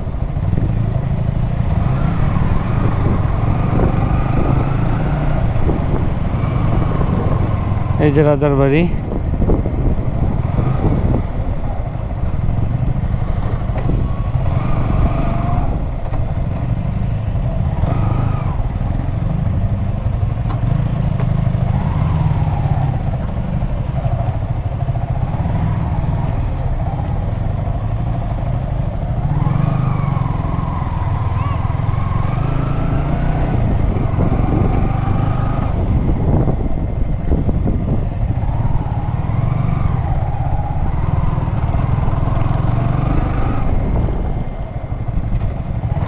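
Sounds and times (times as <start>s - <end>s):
motorcycle engine revving: 0.0s - 46.0s
wind rumble: 0.0s - 46.0s.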